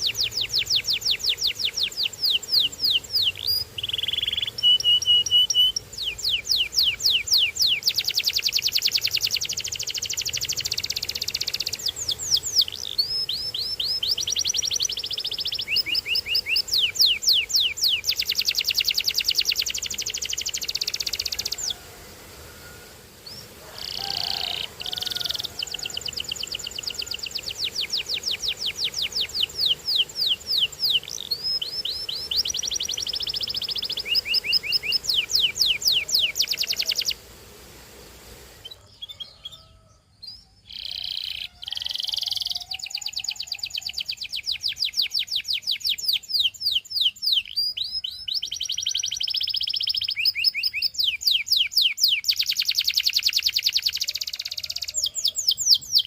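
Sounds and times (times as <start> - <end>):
canary singing trills: 0.0 - 21.9, 22.5 - 37.2, 38.6 - 56.0.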